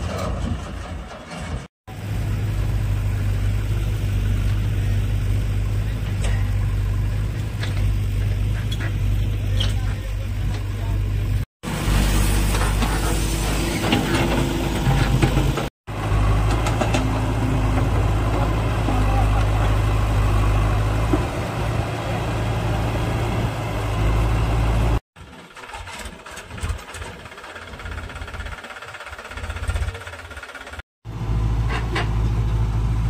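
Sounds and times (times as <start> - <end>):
heavy diesel engine droning: 0.0 - 25.0, 25.8 - 33.0
uneven engine rumble: 0.0 - 33.0.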